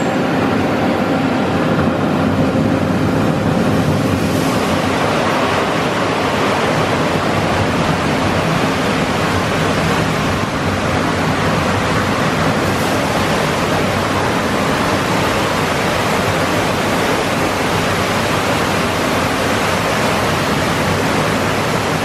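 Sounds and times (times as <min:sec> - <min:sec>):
high-pressure water spray hissing: 0:03.6 - 0:22.0.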